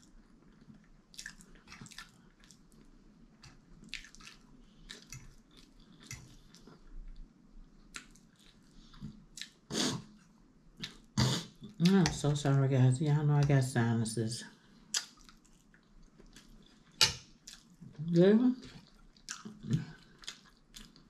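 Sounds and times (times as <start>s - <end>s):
wet chewing and mouth clicks: 0.5s - 12.2s, 14.9s - 18.0s, 18.6s - 21.0s.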